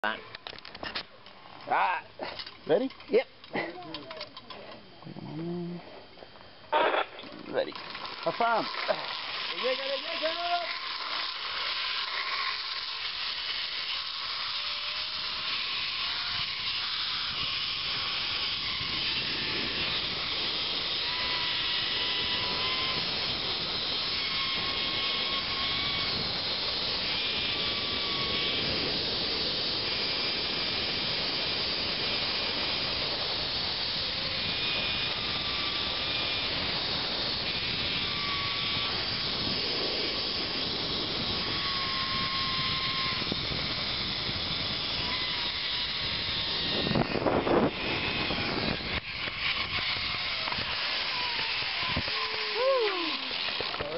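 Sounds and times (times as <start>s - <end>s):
zipline trolley rushing on cable: 6.7s - 53.9s.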